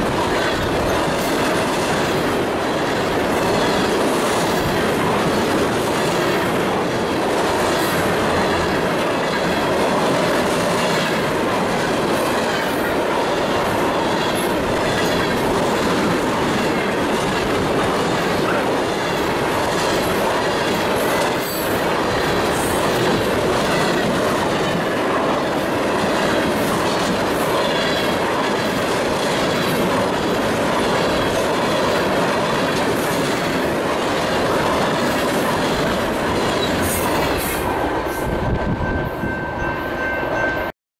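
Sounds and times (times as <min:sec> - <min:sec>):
freight train rumbling past: 0:00.0 - 0:40.7.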